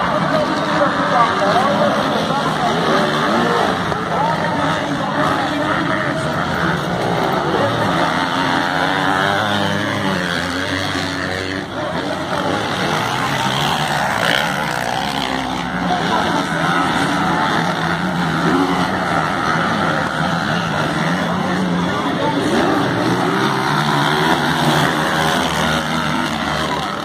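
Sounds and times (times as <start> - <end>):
racing motorcycle engines: 0.0 - 27.0.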